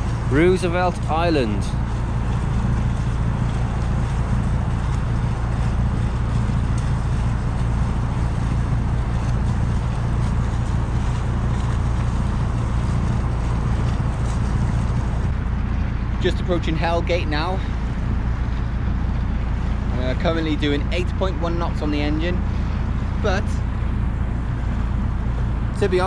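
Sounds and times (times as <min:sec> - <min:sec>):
boat engine droning: 0:00.0 - 0:26.0
wind rumbling on microphone: 0:00.0 - 0:26.0.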